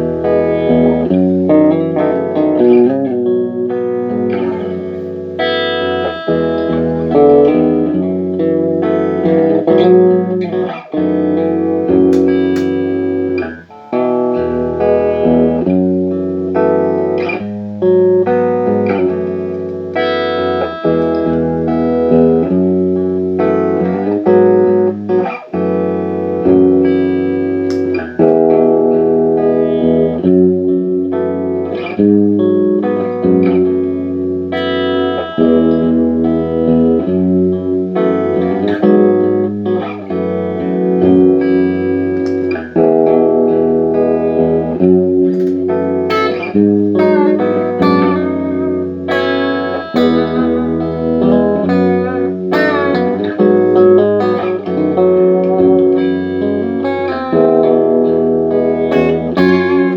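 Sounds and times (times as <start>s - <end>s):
electric guitar chords and notes: 0.0s - 59.9s.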